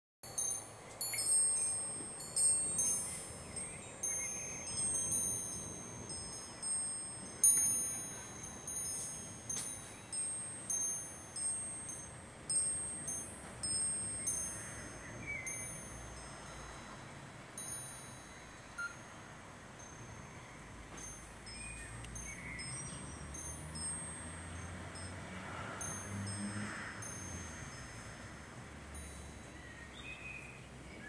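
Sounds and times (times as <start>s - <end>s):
metal wind chime jangling: 0.3s - 19.2s, 19.8s - 30.3s.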